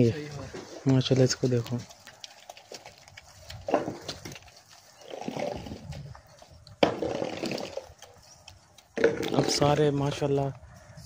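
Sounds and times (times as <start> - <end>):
hooves squelching in mud: 0.0 - 10.9.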